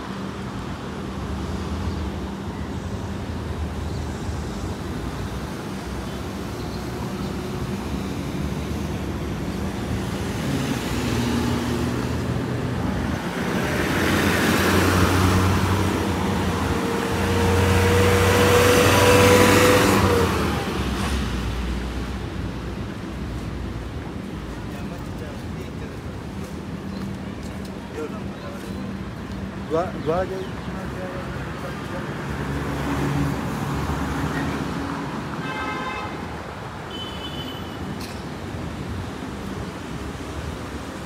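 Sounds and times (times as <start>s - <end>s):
low hum of engines: 0.0s - 35.1s
vehicles passing close: 0.0s - 41.0s.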